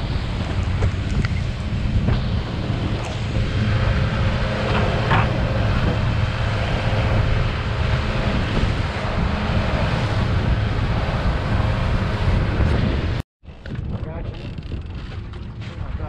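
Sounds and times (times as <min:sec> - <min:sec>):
rush of boat wake: 0:00.0 - 0:13.2
outboard motor drone: 0:00.0 - 0:16.0
wind buffeting microphone: 0:00.0 - 0:16.0.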